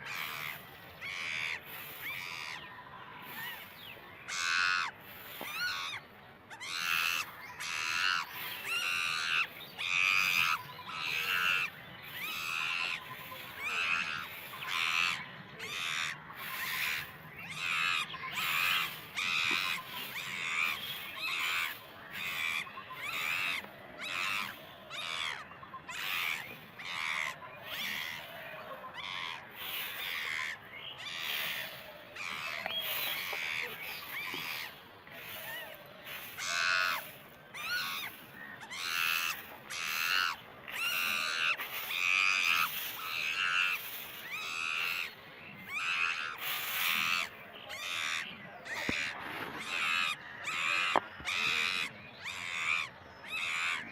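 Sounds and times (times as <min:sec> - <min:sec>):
animal calls: 0:04.3 - 0:53.9.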